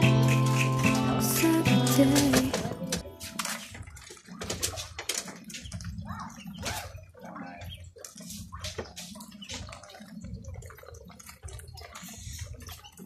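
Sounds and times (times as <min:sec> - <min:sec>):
poultry pecking clicks: 0:02.0 - 0:13.0.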